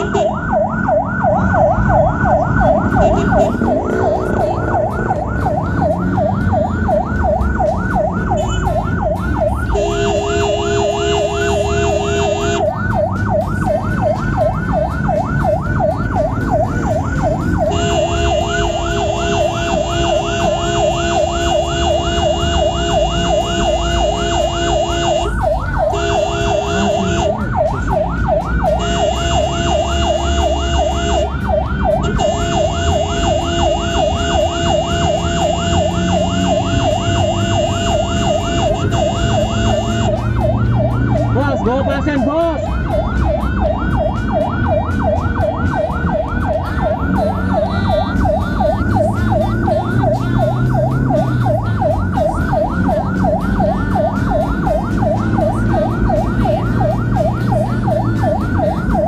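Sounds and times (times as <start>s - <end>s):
ambulance siren yelping: 0.0s - 59.0s.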